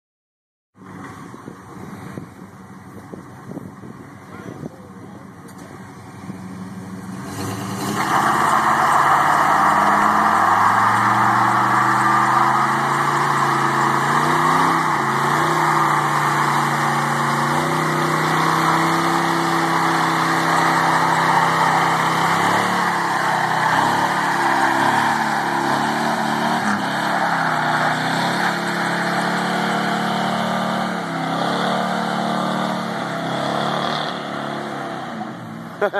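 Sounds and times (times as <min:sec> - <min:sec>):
engine revving high: 0:07.1 - 0:35.9.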